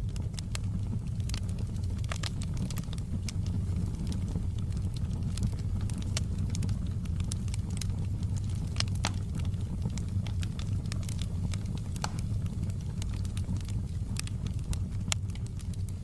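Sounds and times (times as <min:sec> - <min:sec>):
fire crackles and pops: 0:00.0 - 0:16.0
fire roaring in fireplace: 0:00.0 - 0:16.0.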